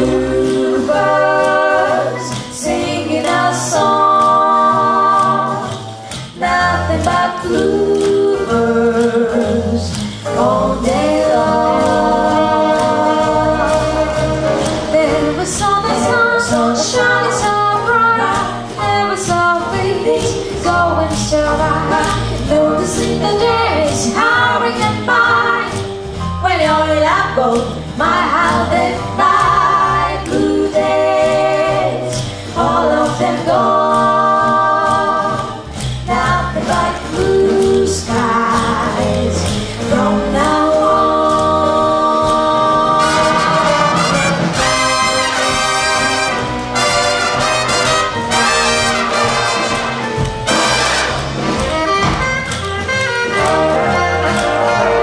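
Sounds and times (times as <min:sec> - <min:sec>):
women singing in harmony: 0:00.0 - 0:25.8, 0:26.4 - 0:50.8, 0:53.4 - 0:55.0
big band swing music: 0:00.0 - 0:55.0.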